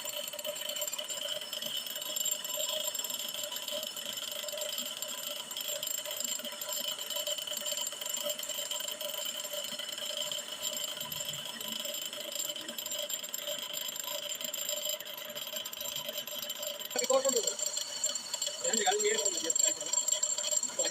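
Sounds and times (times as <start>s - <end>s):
machine whine: 0.0s - 20.9s.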